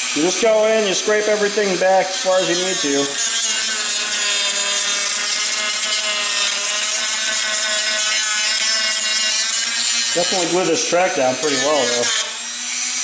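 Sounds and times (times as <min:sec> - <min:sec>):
rotary tool motor whine: 0:00.0 - 0:13.0.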